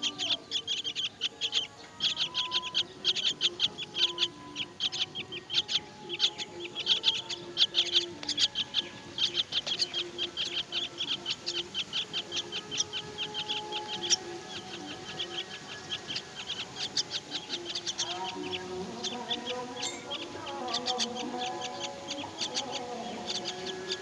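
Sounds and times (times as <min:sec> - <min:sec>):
nestlings begging chirps: 0:00.0 - 0:24.0.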